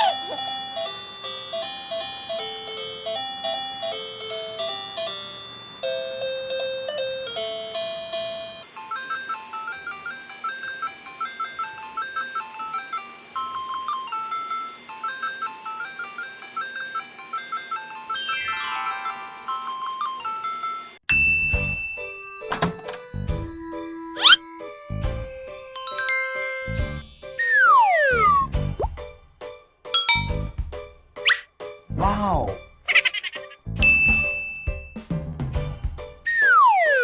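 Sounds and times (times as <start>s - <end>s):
light bouncing cartoon music: 0.0s - 3.0s, 8.6s - 37.0s.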